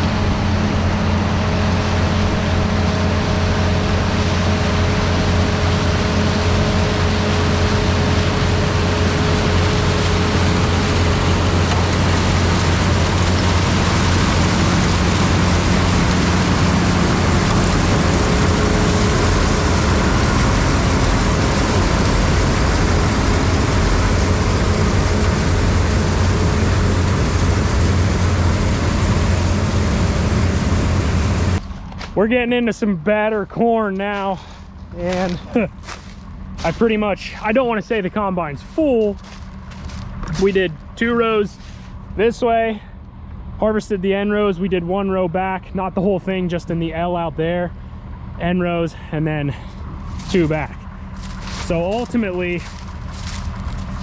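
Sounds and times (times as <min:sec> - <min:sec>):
combine engine and machinery drone: 0:00.0 - 0:54.0.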